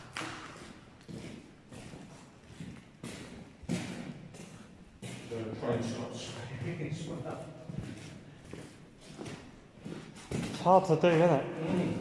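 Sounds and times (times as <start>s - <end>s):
footsteps on a hard floor: 0.0s - 5.9s, 6.6s - 12.0s.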